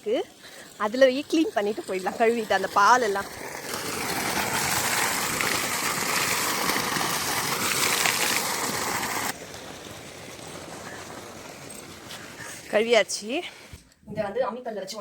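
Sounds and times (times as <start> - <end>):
running water gushing: 0.0 - 13.8.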